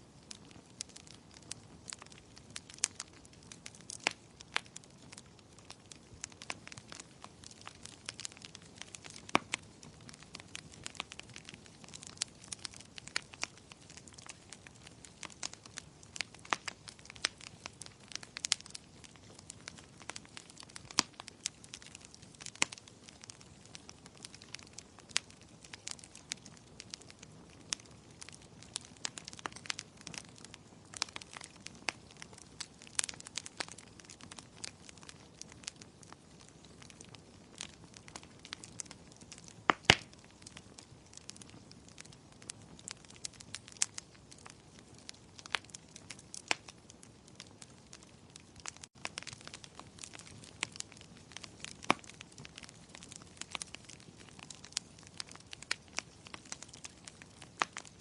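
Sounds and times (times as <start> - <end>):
soft steady hiss: 0.0 - 58.0
wood fire crackling: 0.0 - 58.0
fire pops and snaps: 0.2 - 58.0.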